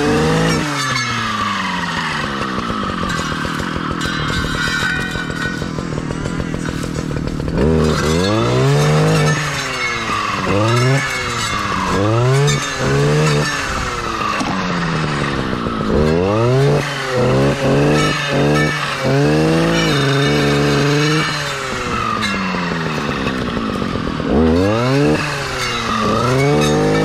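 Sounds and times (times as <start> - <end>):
clearing saw engine revving: 0.0 - 27.0.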